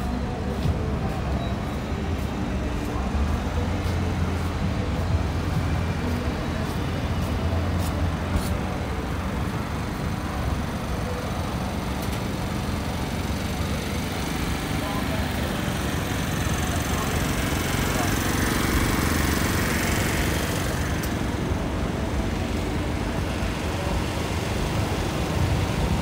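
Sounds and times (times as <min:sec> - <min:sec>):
city street traffic: 0:00.0 - 0:26.0
low engine hum: 0:00.0 - 0:26.0.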